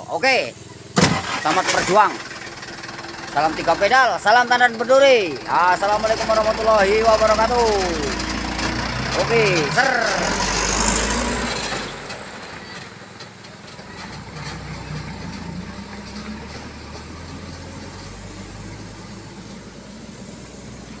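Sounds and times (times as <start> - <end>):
diesel truck pulling away: 0.4 - 21.0.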